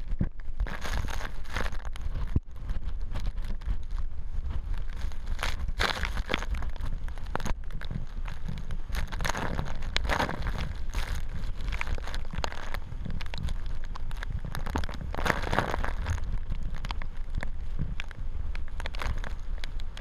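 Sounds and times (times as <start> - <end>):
rain crackling against camera: 0.0 - 20.0
wind buffeting microphone: 0.0 - 20.0.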